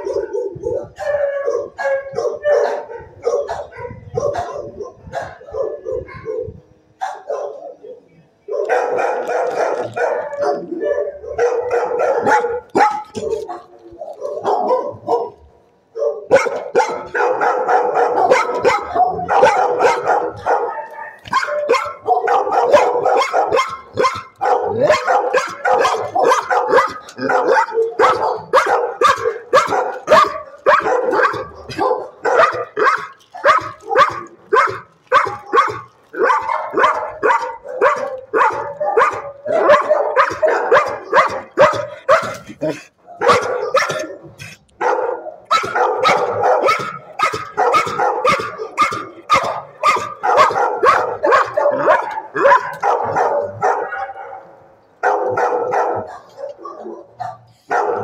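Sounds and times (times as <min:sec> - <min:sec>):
dog barking excitedly: 0:00.0 - 0:07.9, 0:08.5 - 0:58.0.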